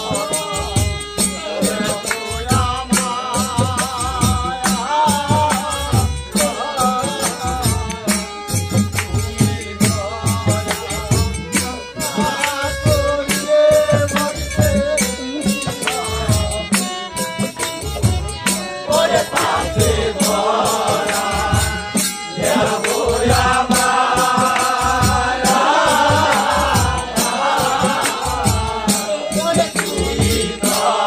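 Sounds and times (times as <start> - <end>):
group singing in chorus: 0.0 - 16.9, 18.4 - 31.0
person singing folk song: 0.0 - 17.7, 18.4 - 31.0
clicking jingling percussion: 0.0 - 31.0.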